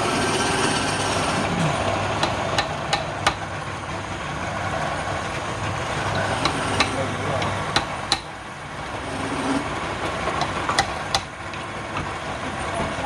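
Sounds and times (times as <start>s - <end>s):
wood lathe humming: 0.0s - 12.2s.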